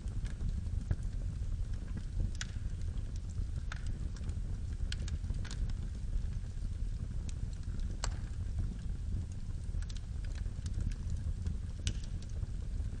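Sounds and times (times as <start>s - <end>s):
fire rumbling in fireplace: 0.0s - 13.0s
firewood crackling and popping: 0.0s - 13.0s.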